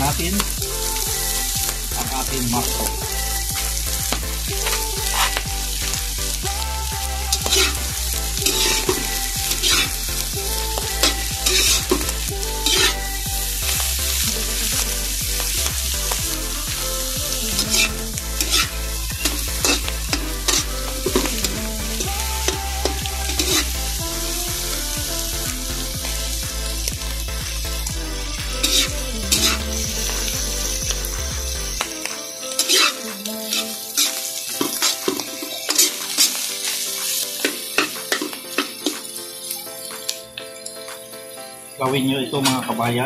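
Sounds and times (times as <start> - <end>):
food sizzling in hot oil: 0.0 - 40.7.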